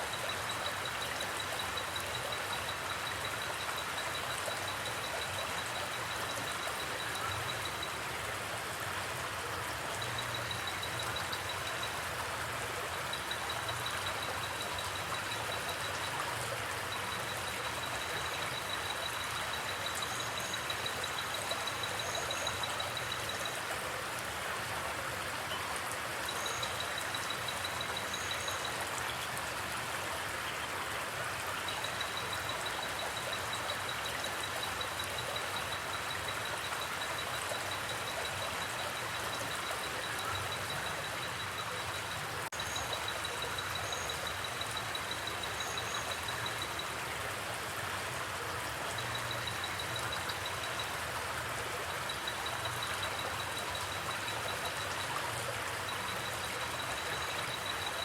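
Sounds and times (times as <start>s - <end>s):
creek water over rocks: 0.0s - 58.0s.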